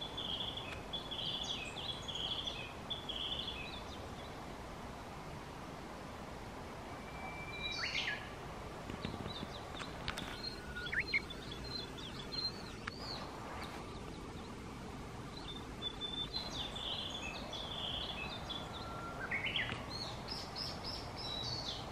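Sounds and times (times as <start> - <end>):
bird chirps: 0.0 - 4.3, 6.9 - 8.4, 9.0 - 14.6, 15.3 - 21.9
songbirds singing: 0.0 - 4.6, 6.7 - 21.9
background hiss: 0.0 - 21.9.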